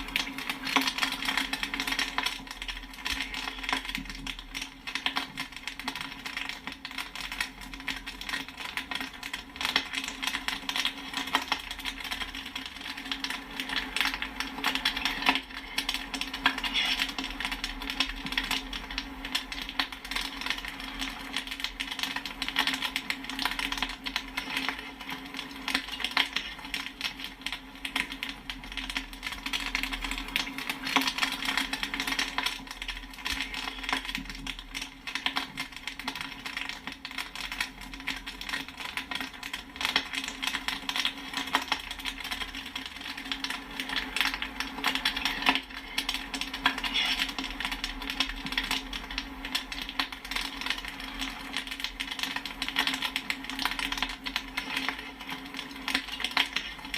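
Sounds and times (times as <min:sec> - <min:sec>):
popcorn popping: 0:00.0 - 0:56.9.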